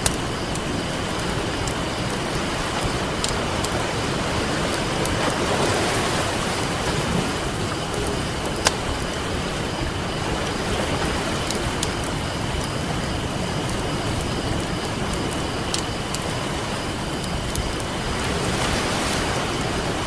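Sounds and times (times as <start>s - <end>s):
campfire crackling: 0.0s - 20.0s
ocean surf rushing: 0.0s - 20.0s.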